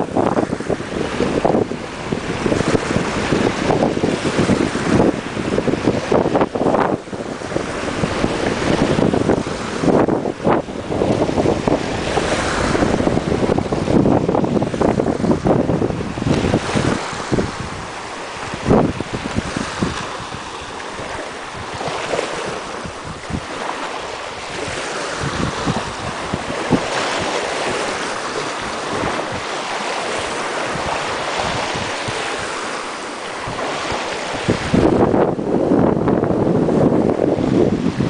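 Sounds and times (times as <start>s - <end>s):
sea waves washing on shore: 0.0s - 38.0s
wind buffeting microphone: 0.0s - 38.0s.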